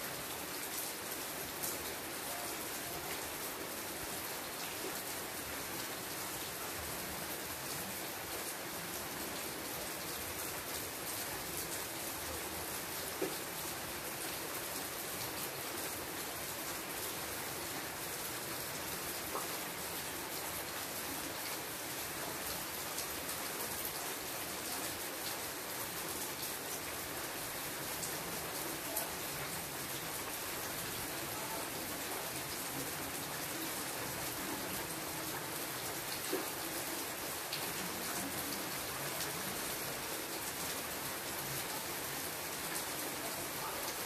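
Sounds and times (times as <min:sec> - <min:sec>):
rain on foliage: 0:00.0 - 0:44.0.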